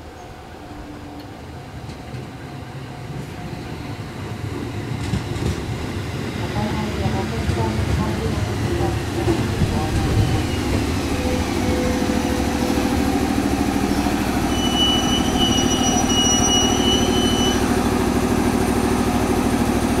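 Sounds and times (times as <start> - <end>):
electric train pulsing hum: 0.0 - 20.0.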